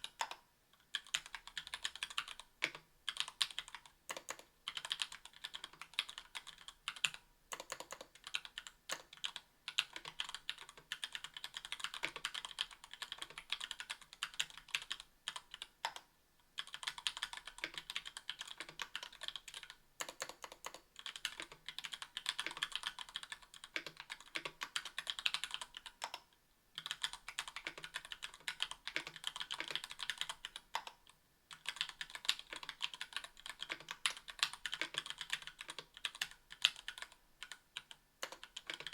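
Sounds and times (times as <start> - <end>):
mechanical keyboard typing: 0.0 - 16.0, 16.6 - 26.2, 26.8 - 38.9.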